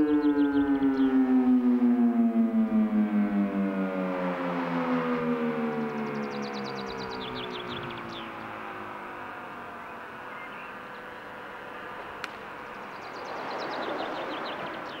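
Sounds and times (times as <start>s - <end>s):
birds chirping: 0.0s - 3.2s, 4.6s - 15.0s
fire siren falling tones: 0.0s - 12.8s.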